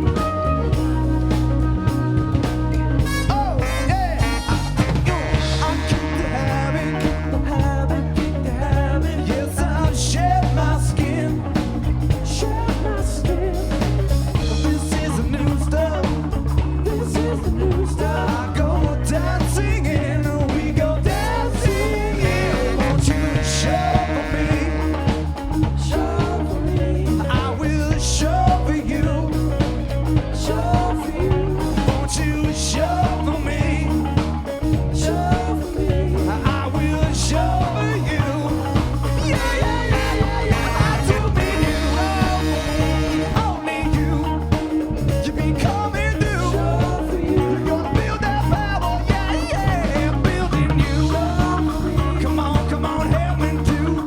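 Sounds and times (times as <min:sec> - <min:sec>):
funk rock band playing live: 0:00.0 - 0:54.0
person singing: 0:00.0 - 0:54.0.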